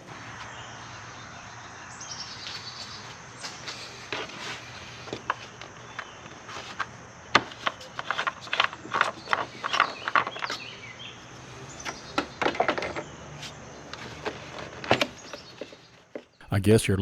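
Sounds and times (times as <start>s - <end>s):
insects chirping: 0.2s - 15.5s.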